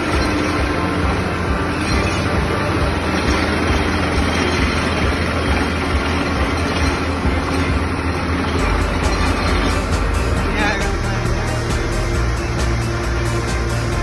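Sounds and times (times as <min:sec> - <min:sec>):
drilling rig running: 0:00.0 - 0:14.0.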